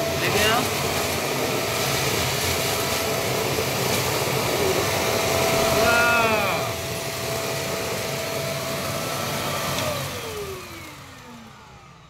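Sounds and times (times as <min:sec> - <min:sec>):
stick vacuum cleaner motor humming: 0:00.0 - 0:12.0.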